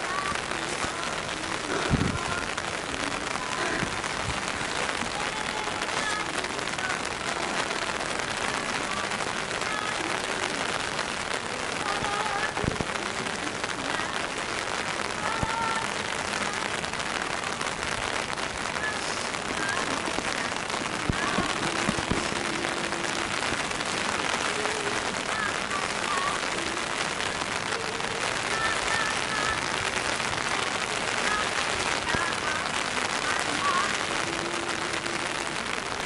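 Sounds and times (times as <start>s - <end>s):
rain falling on pavement: 0.0s - 36.0s.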